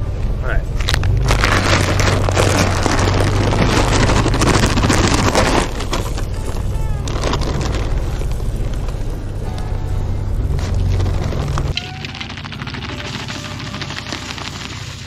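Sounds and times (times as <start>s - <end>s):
truck engine rumble: 0.0s - 15.0s
corn kernels pouring: 0.9s - 9.0s, 10.6s - 15.0s.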